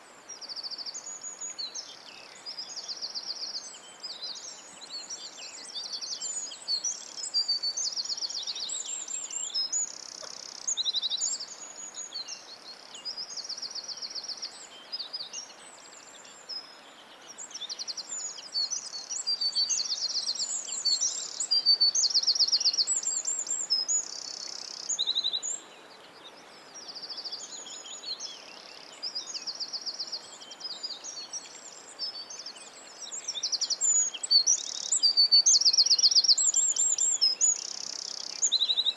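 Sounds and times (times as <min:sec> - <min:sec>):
faint steady background hiss: 0:00.0 - 0:38.9
songbirds singing: 0:00.0 - 0:38.9.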